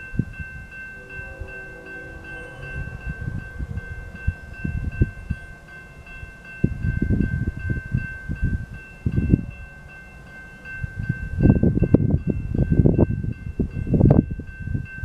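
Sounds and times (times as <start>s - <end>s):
low rumbling: 0.0s - 15.0s
railroad crossing bell ringing: 0.0s - 15.0s.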